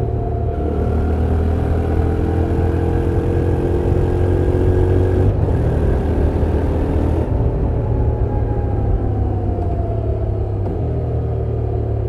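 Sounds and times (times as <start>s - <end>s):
motorcycle engine at road speed: 0.0s - 12.0s.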